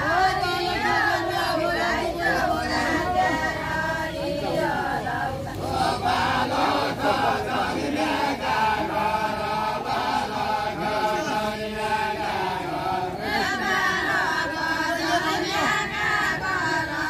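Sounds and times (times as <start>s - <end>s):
group singing a folk song: 0.0s - 17.0s.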